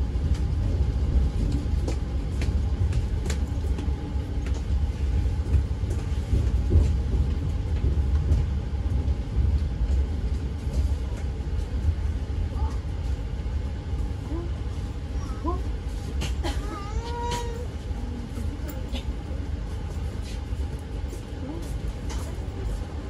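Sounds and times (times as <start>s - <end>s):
train coach rumble: 0.0s - 23.0s.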